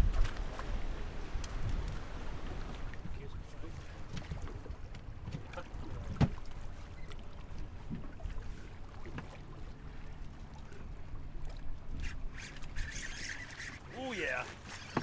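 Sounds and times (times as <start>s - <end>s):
small waves lapping against hull: 0.0s - 15.0s
wind: 0.0s - 15.0s.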